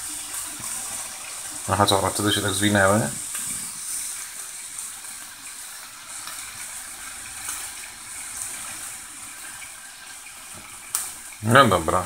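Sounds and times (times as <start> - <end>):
faint crackles: 0.0 - 11.5
food sizzling in a frying pan: 0.0 - 12.0.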